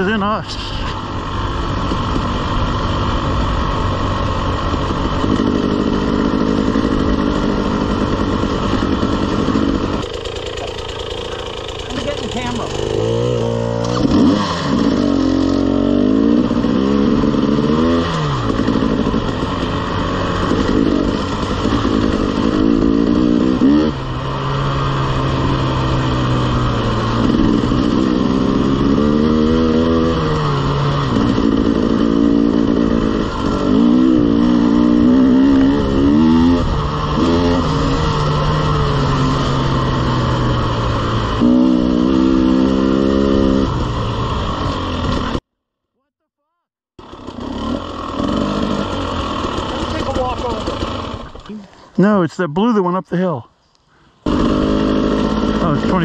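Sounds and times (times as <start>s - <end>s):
dirt bike engine accelerating: 0.0s - 45.5s, 47.0s - 53.3s, 54.2s - 56.0s.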